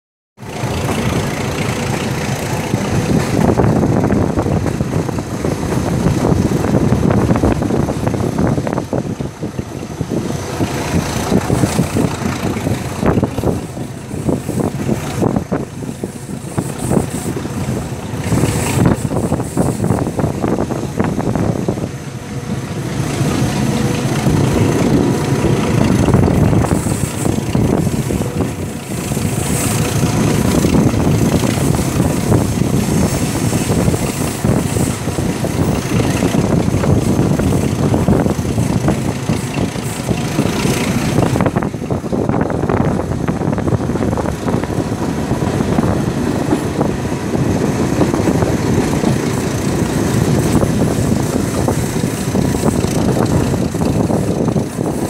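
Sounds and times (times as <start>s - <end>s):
train running on track: 0.4s - 55.0s.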